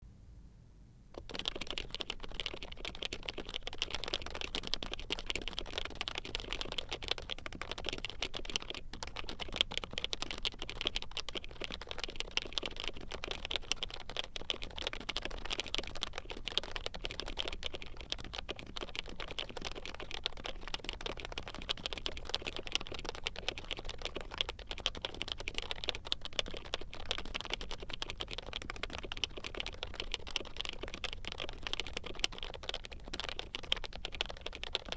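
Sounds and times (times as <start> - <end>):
fast typing on a keyboard: 1.2 - 34.9.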